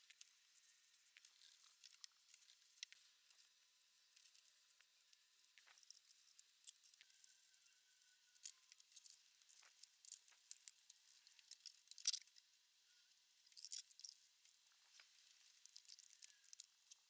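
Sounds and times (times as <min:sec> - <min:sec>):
faint small clicks and ticks: 0:00.0 - 0:17.0.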